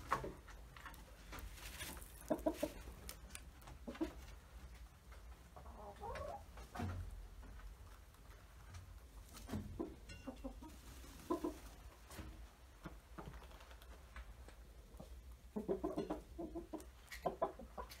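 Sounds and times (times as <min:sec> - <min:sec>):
chickens clucking: 0:00.0 - 0:07.7, 0:09.2 - 0:13.6, 0:14.4 - 0:18.0.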